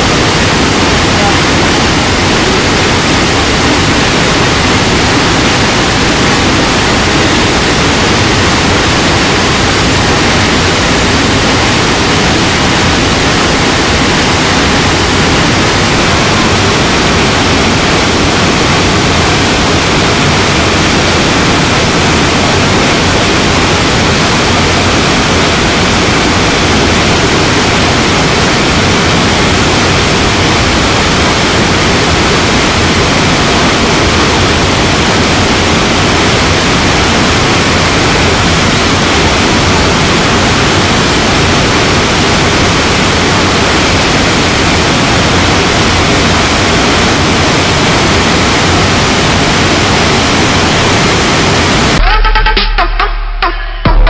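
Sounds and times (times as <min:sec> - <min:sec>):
waterfall rushing over boulders: 0:00.0 - 0:52.0.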